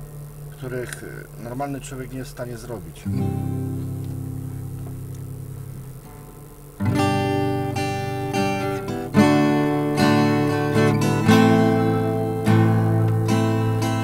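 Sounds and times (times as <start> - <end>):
acoustic guitar strummed chords: 2.8 - 14.0.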